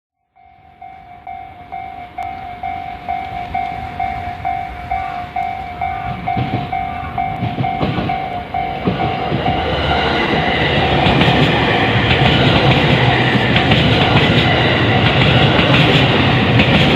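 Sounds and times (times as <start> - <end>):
level-crossing alarm bell ringing: 0.2 - 16.9
train rumble and wheel clatter: 0.4 - 16.9.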